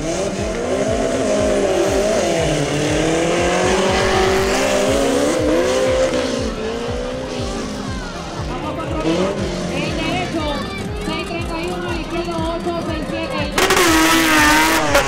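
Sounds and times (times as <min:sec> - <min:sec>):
small truck engines revving: 0:00.0 - 0:15.0.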